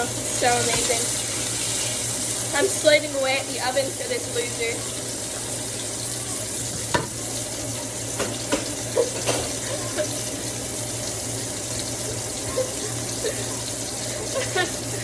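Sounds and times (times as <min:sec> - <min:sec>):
sausage sizzling in a pan: 0:00.0 - 0:15.0.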